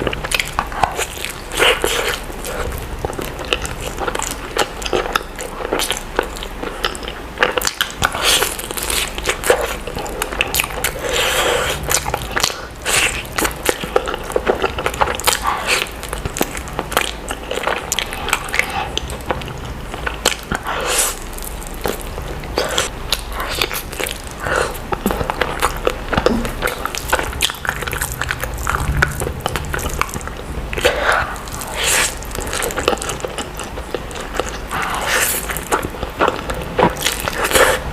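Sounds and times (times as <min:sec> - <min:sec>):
chewing noodles: 0:00.0 - 0:37.9.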